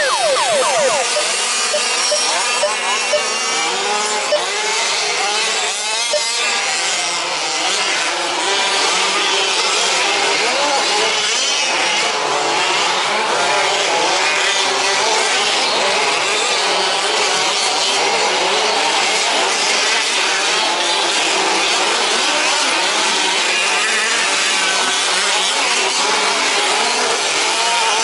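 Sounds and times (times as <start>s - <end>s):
small two-stroke engines racing: 0.0s - 28.0s.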